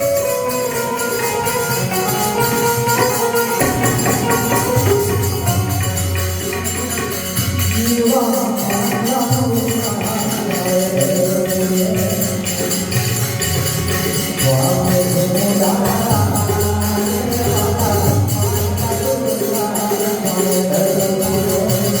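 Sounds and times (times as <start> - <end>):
jingling percussion beat: 0.0 - 22.0.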